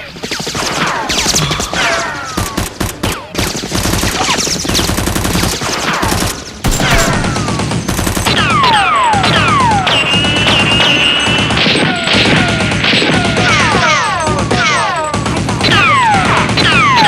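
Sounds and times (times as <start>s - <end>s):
rapid gunfire sound effects: 0.1s - 17.0s.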